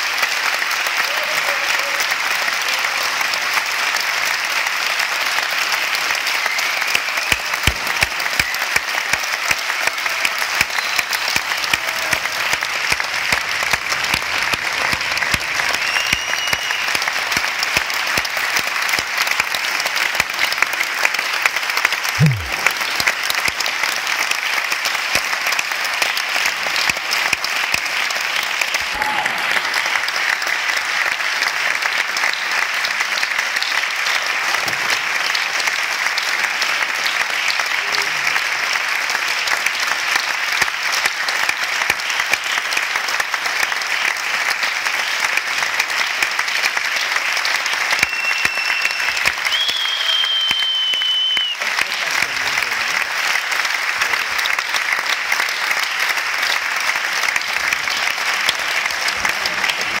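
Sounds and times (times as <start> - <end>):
audience applauding: 0.0 - 60.0
close hands clapping: 0.0 - 60.0.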